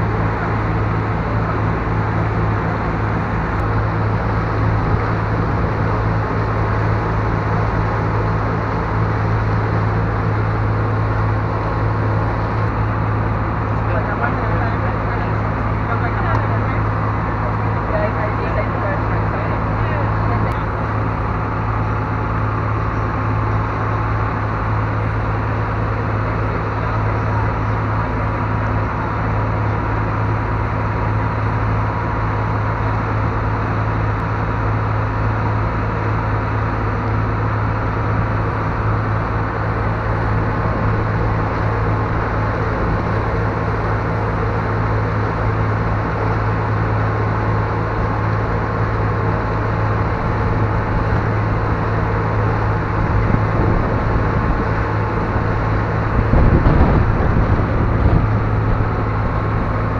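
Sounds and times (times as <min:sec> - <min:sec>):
ferry engines droning: 0:00.0 - 0:59.9
rushing water noise: 0:00.0 - 0:59.9.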